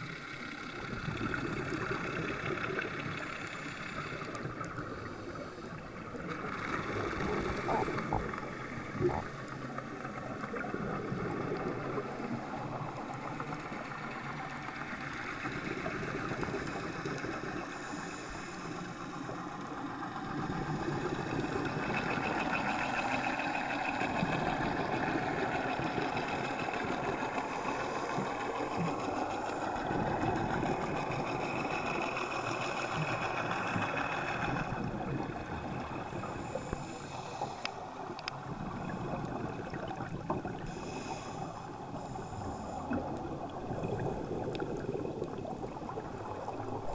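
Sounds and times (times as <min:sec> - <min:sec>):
underwater engine drone: 0:00.0 - 0:46.9.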